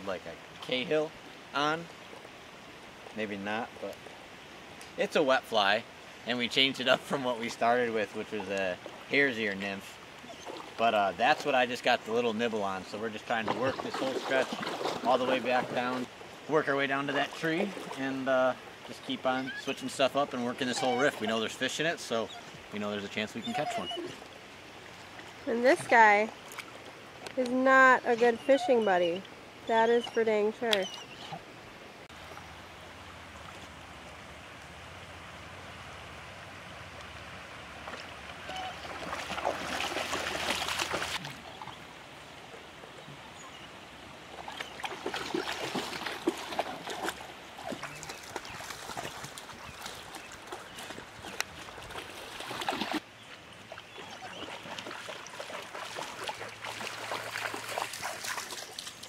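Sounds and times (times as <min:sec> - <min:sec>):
creek water running over stones: 0:00.0 - 0:59.0
water splashes: 0:00.0 - 0:59.0.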